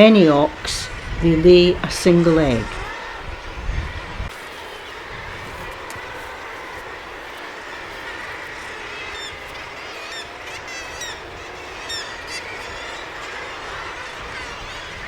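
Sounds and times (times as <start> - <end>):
din of seabirds calling: 0.0 - 15.0
sharp high bird calls: 0.0 - 15.0.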